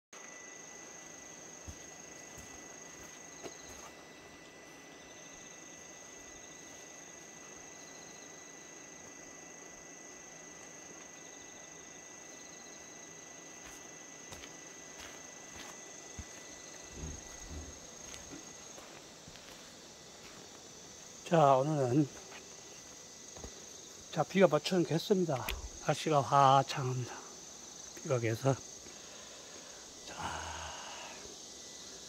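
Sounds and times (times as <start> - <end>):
insects chirring: 0.2 - 32.0.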